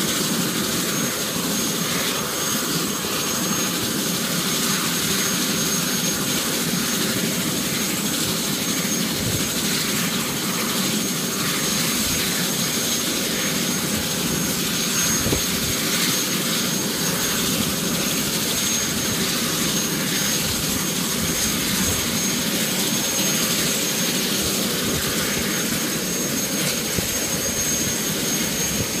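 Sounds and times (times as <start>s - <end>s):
helicopter turbine engine running: 0.0s - 29.0s.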